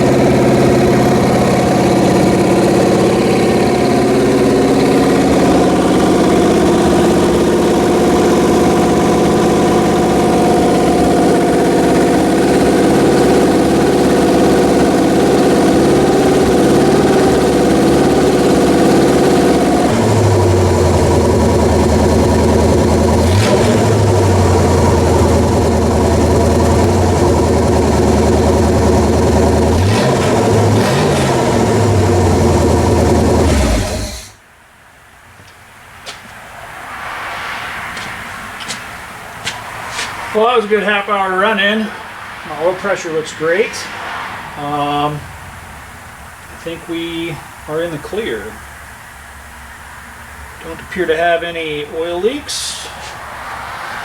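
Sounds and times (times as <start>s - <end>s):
car engine running and revving: 0.0s - 34.4s, 41.9s - 54.0s.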